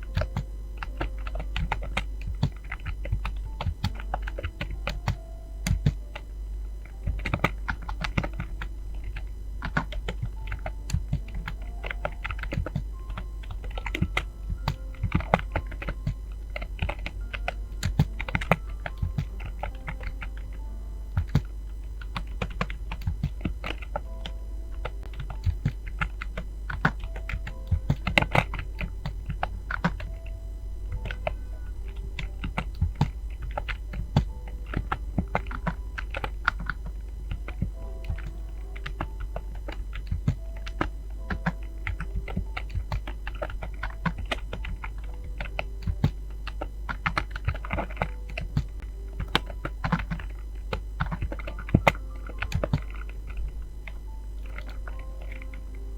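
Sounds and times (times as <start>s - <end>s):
typing on computer keyboard: 0.0s - 55.9s.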